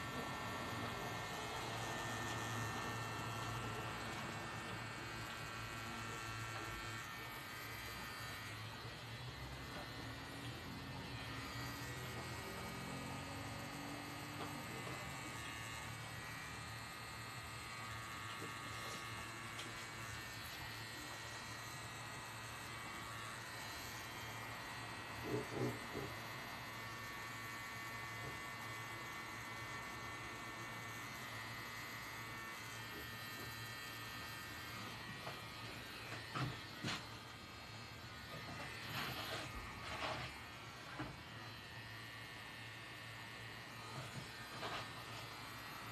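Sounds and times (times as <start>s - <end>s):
tattoo machine buzzing: 0.0s - 45.9s.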